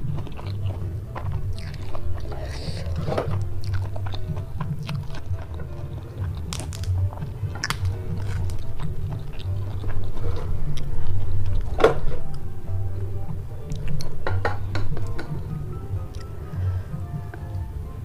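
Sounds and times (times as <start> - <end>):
close chewing: 0.0 - 18.0.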